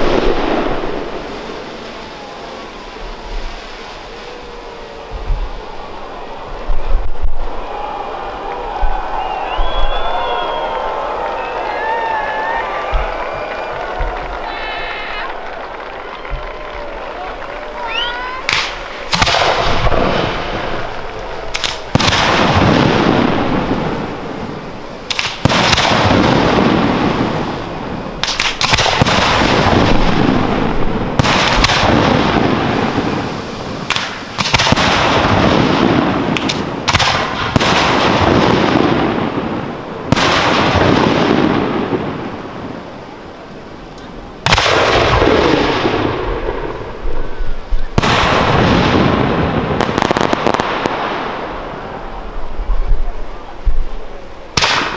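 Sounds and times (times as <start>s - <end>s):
firework shells bursting: 8.5s - 54.9s.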